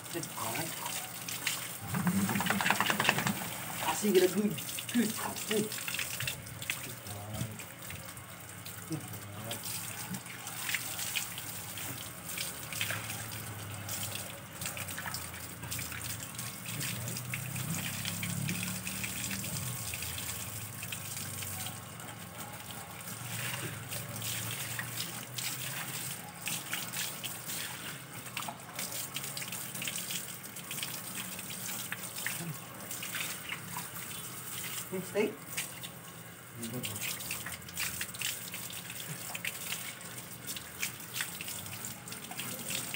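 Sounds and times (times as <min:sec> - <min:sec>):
hose water splashing on concrete: 0:00.0 - 0:42.9.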